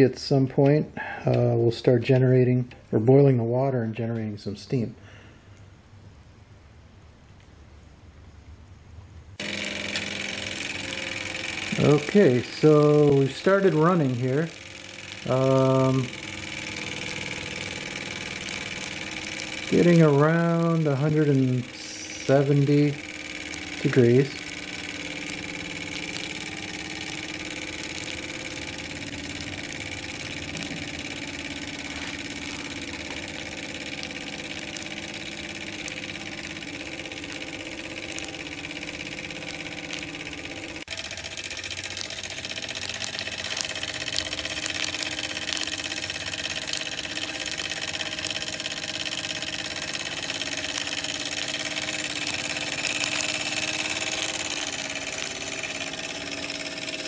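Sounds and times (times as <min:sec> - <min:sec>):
miniature steam engine running: 0:09.4 - 0:57.0.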